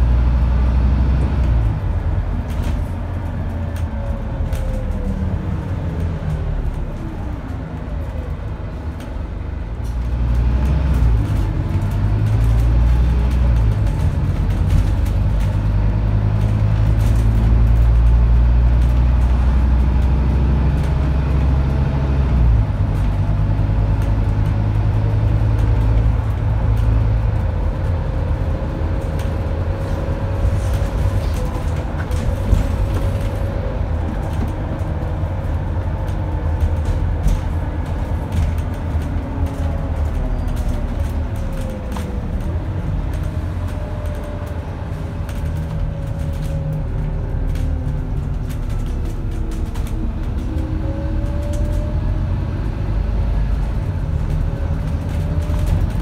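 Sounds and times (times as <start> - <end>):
diesel bus engine pulling hard: 0.0 - 56.0.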